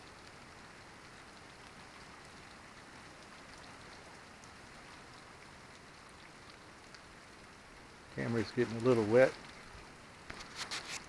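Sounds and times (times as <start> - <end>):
faint rainfall: 0.0 - 11.0.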